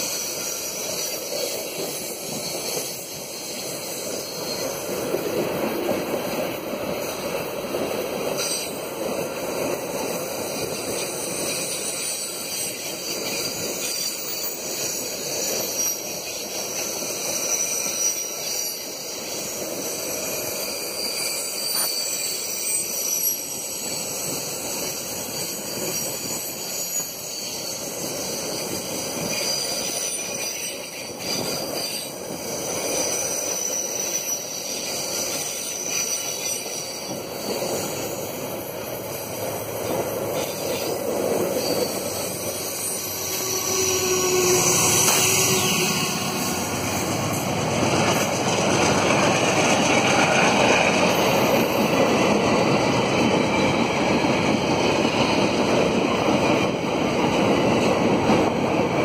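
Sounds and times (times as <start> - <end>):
steel-on-steel wheel squeals: 0.0 - 59.0
train wheels rumbling on rails: 0.0 - 59.0.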